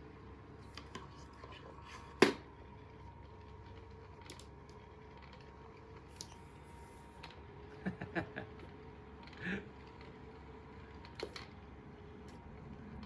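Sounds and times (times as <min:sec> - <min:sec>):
electric cat toy motor hum: 0:00.0 - 0:13.0.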